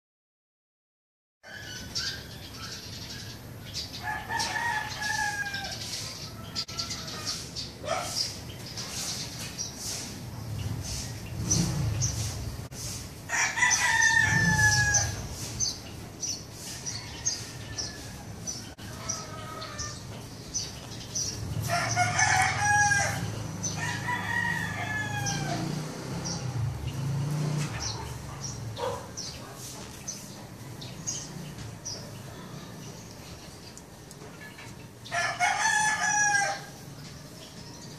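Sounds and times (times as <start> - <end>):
small birds chirping: 1.4 - 37.9
roosters crowing: 3.7 - 8.6, 9.2 - 33.0, 34.7 - 37.9.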